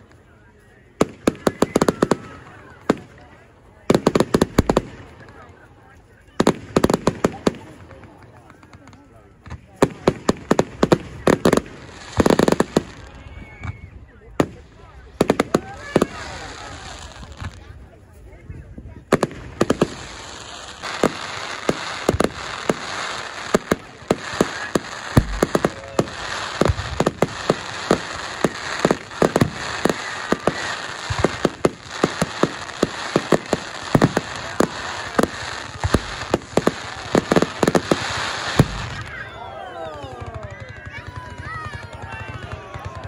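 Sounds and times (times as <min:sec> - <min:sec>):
fireworks crackle: 0:00.0 - 0:43.0.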